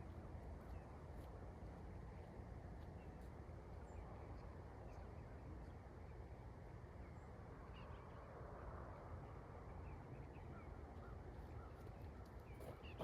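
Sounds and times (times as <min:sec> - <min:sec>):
low rush of background noise: 0:00.0 - 0:13.0.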